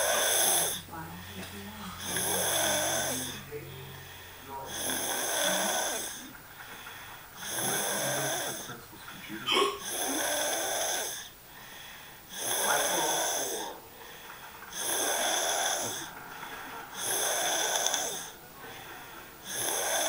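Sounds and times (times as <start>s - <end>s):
person snoring: 0.0s - 20.0s
quiet breathing: 0.0s - 20.0s.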